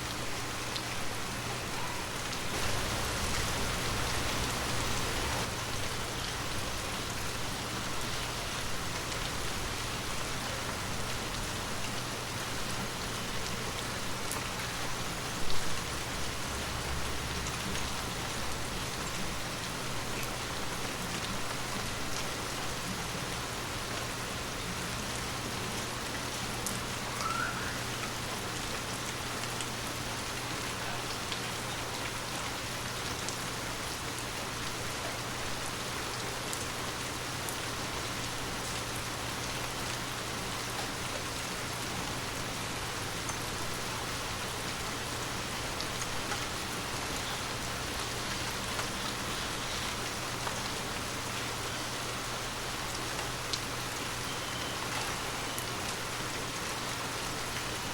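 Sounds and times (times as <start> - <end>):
heavy rain on hard surface: 0.0 - 57.9.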